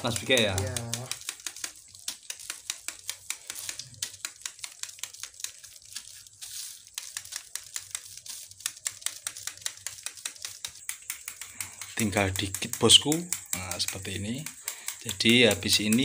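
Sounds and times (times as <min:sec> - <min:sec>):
soldering iron ticks and crackles: 0:00.0 - 0:16.0.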